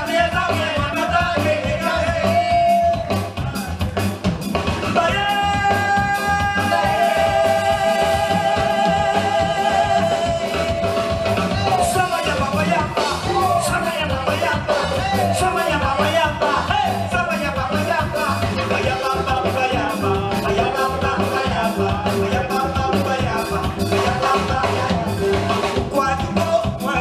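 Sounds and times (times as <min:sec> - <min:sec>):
drums and percussion dance beat: 0:00.0 - 0:27.0
man singing: 0:00.0 - 0:27.0.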